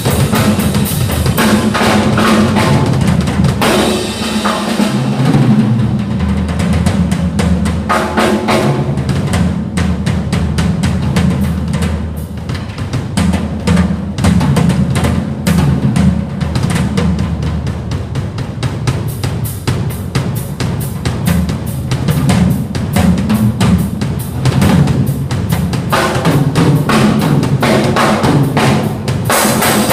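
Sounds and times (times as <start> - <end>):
drum kit bass drum and snare: 0.0 - 29.9.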